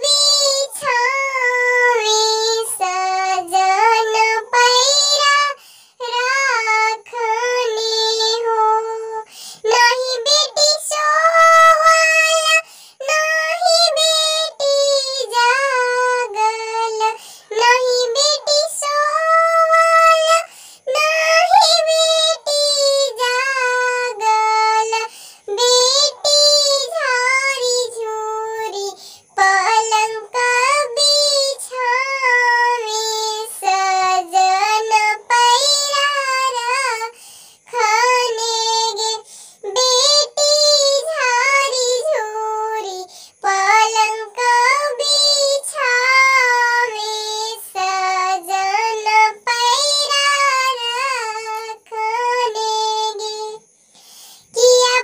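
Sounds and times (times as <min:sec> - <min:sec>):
high cartoon voice singing: 0:00.0 - 0:37.1, 0:37.7 - 0:53.6.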